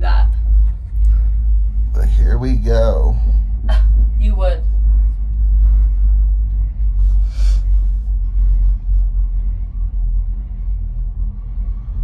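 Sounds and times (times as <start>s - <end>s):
cable car low rumble: 0.0s - 12.0s.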